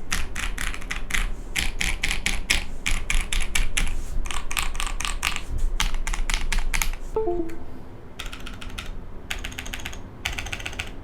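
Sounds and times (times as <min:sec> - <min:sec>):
mechanical keyboard typing: 0:00.1 - 0:07.0, 0:08.2 - 0:11.0.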